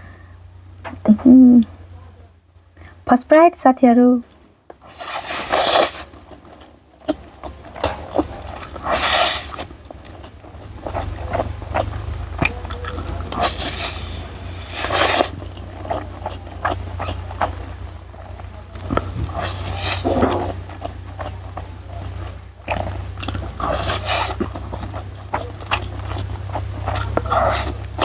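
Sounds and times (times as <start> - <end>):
mouth clicks: 4.2 - 28.0
wet chewing: 4.2 - 28.0
noodle slurping: 4.7 - 28.0.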